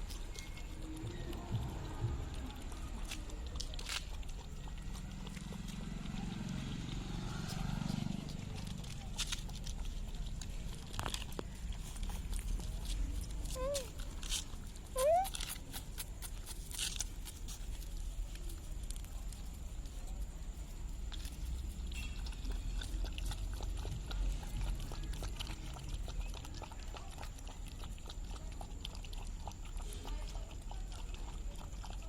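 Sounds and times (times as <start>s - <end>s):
puppies chewing and smacking: 0.0s - 32.0s.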